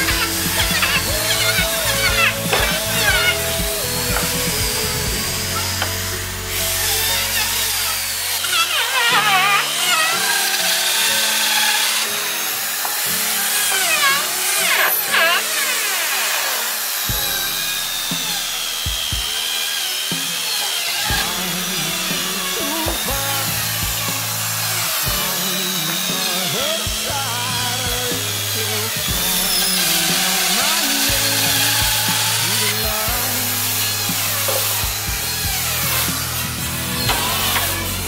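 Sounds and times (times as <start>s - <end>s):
background music: 0.0s - 38.0s
electric drill boring into wood: 0.0s - 38.0s.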